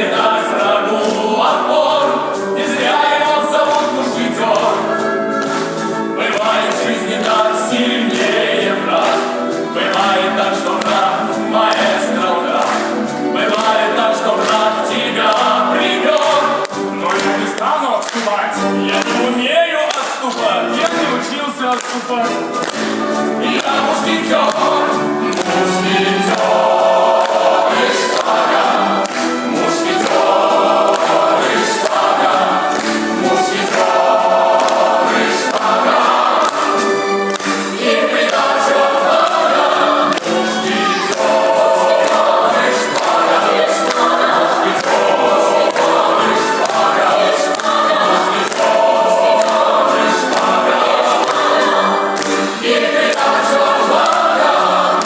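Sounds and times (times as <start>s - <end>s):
choir singing: 0.0s - 55.0s
musical accompaniment: 0.0s - 55.0s.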